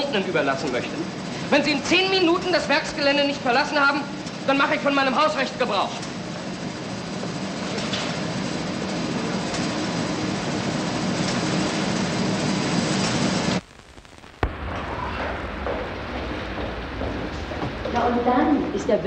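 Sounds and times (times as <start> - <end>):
factory machinery hum: 0.0 - 13.8, 14.4 - 19.0.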